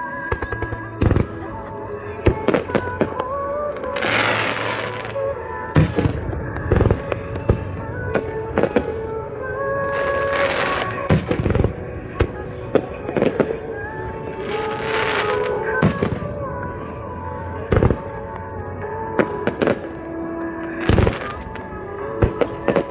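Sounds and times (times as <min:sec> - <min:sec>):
background music: 0:00.0 - 0:22.9
fireworks crackle: 0:00.0 - 0:22.9.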